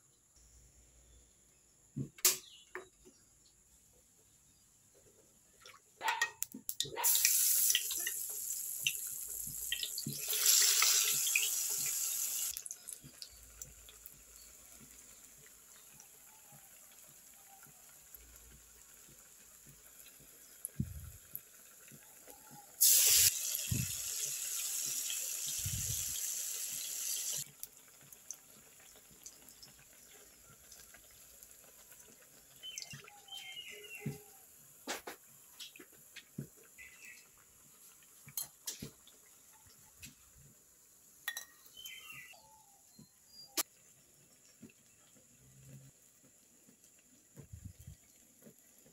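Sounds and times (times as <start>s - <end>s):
oil sizzling in a wok: 7.0s - 42.4s, 43.0s - 48.9s.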